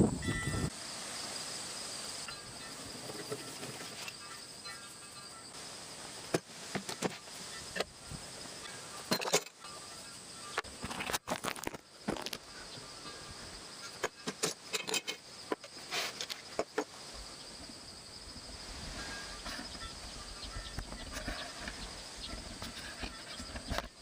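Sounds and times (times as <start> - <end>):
insect chirring: 0.0 - 24.0.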